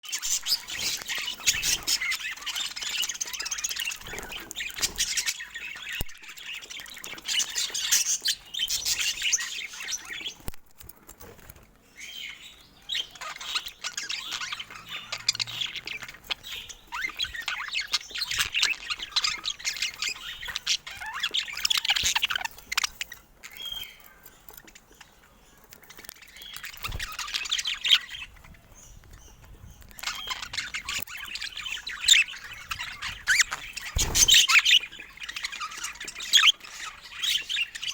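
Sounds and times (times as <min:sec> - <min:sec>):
budgerigars chattering and squawking: 0:00.1 - 0:10.5, 0:11.8 - 0:37.9.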